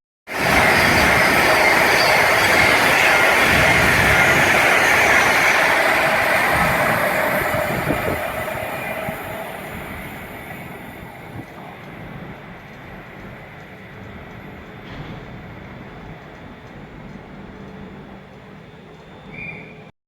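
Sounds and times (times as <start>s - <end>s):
train rumbling on track: 0.3s - 19.9s.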